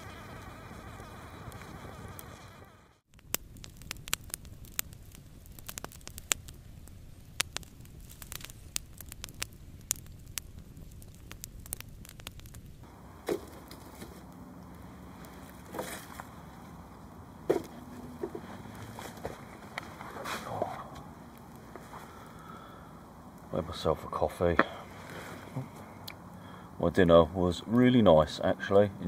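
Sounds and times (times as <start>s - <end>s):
campfire crackling and popping: 0.0s - 28.7s.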